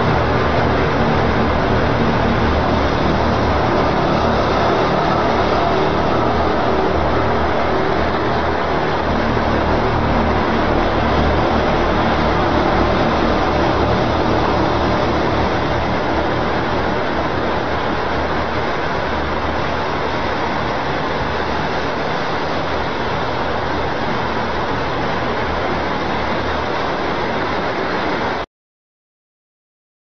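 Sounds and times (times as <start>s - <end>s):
low hum: 0.0s - 28.4s
loud steady noise: 0.0s - 28.5s.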